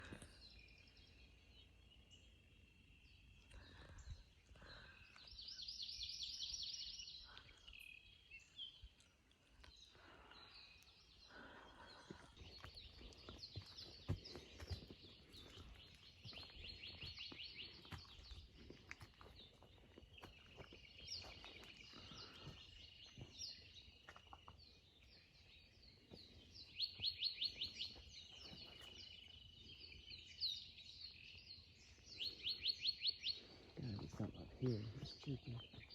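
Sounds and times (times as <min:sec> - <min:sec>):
birds chirping and singing: 0:00.0 - 0:35.9.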